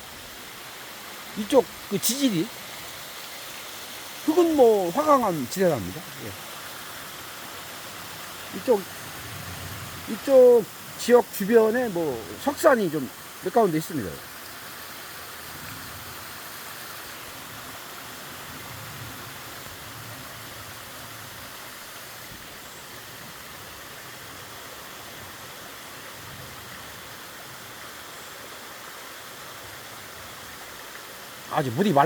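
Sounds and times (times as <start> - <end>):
stream flowing over rocks: 0.0 - 32.0.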